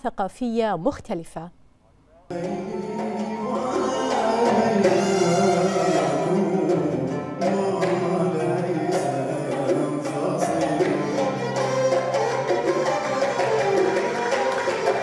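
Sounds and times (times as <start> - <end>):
hand drums beating: 2.3 - 15.0
oud playing: 2.3 - 15.0
person singing: 2.3 - 15.0.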